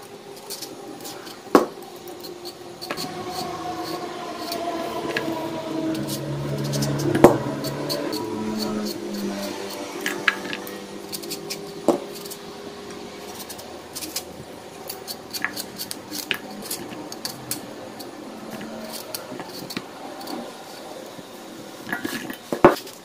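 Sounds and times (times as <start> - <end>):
knife cutting vegetable: 0.4 - 20.8.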